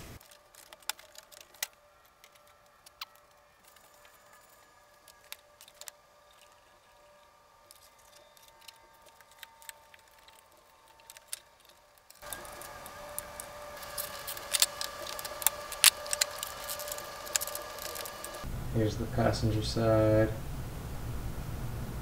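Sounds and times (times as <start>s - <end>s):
background hiss and hum: 0.0s - 22.0s
sharp clicks: 0.1s - 18.4s
clicks and rattles of handling parts: 0.2s - 18.4s.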